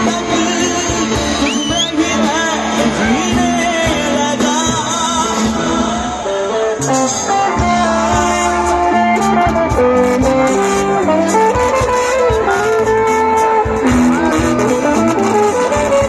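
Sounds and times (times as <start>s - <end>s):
electric guitar: 0.0s - 16.0s
live band playing: 0.0s - 16.0s.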